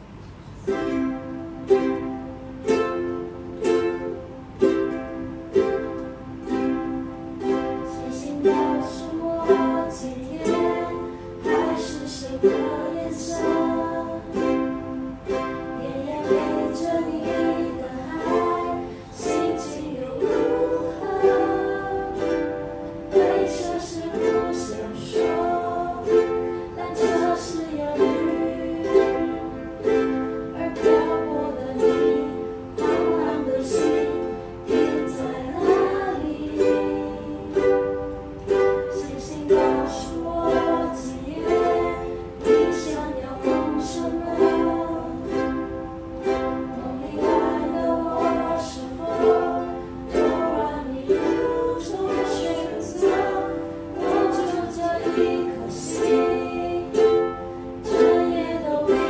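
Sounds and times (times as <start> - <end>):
ukuleles strumming chords: 0.0 - 59.0.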